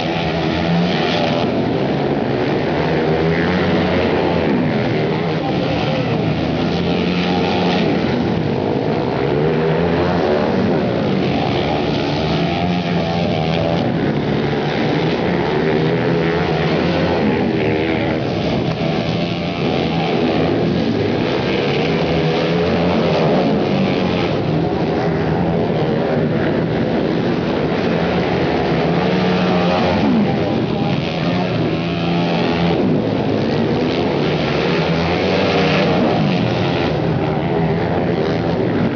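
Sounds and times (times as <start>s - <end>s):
racing motorcycles revving: 0.0s - 38.9s.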